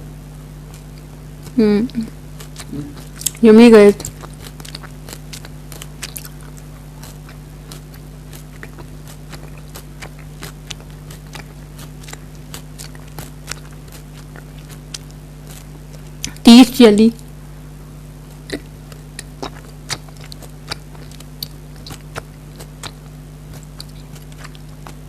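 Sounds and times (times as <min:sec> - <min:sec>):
low electrical hum: 0:00.0 - 0:25.0
person chewing sweets: 0:00.6 - 0:16.5, 0:18.2 - 0:25.0.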